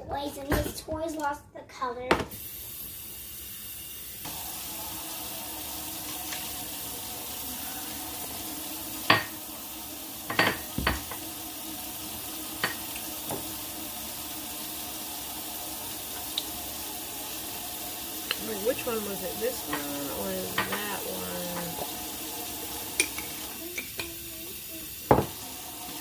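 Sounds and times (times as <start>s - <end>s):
tap water running into sink: 2.1s - 26.0s.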